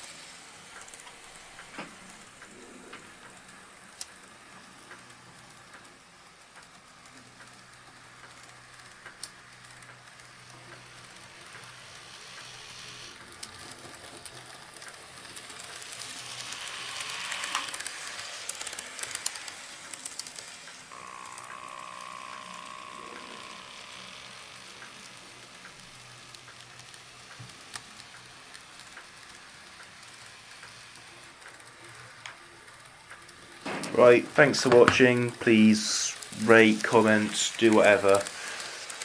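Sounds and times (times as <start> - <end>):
model train motor whirring: 0.0 - 39.0
steady whine: 0.0 - 39.0
wheels clicking over rails: 0.0 - 39.0.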